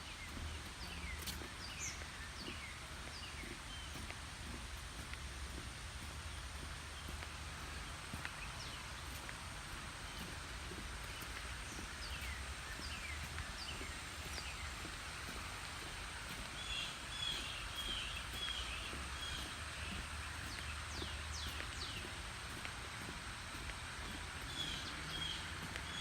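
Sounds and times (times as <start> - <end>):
outdoor hiss and low rumble: 0.0 - 26.0
songbirds chirping and singing: 0.0 - 26.0.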